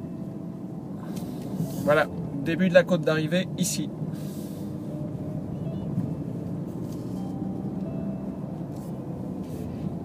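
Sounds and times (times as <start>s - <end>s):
car engine running: 0.0s - 10.0s
road and tyre rumble: 0.0s - 10.0s.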